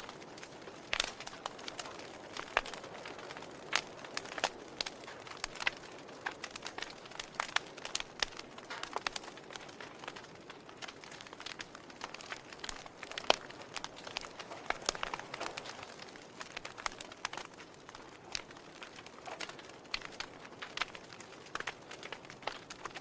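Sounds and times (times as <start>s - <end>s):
fire crackling and popping: 0.0s - 23.0s
soft steady hiss: 0.0s - 23.0s.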